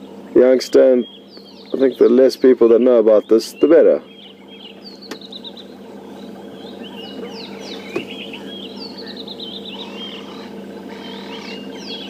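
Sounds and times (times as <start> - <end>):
small birds chirping and whistling: 0.0 - 12.0
steady low hum: 0.0 - 12.0.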